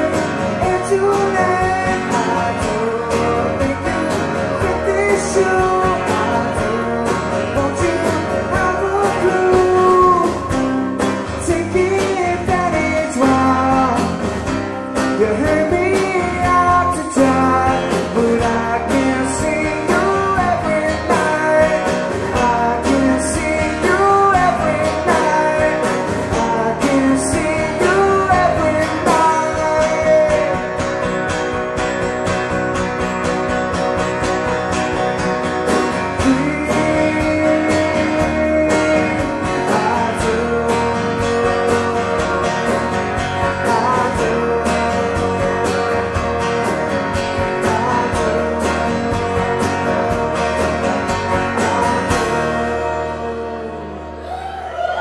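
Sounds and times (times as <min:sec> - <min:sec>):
person singing: 0:00.0 - 0:14.4, 0:15.0 - 0:31.1, 0:36.0 - 0:55.0
live band playing: 0:00.0 - 0:55.0.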